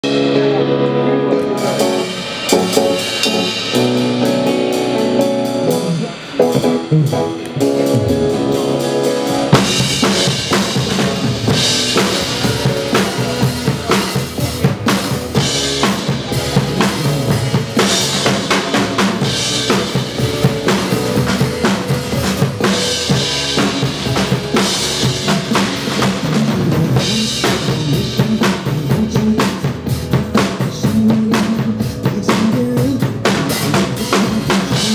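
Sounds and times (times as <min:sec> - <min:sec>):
drum kit playing a beat: 0:00.0 - 0:34.9
pop backing track: 0:00.0 - 0:34.9.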